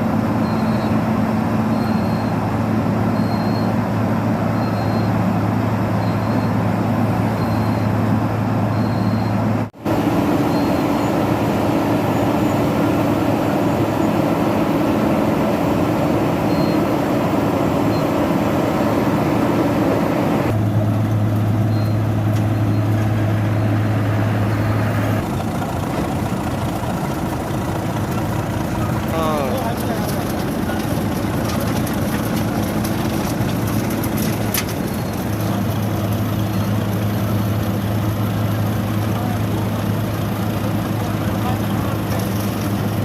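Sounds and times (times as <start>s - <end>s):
heavy engine running: 0.0s - 43.0s.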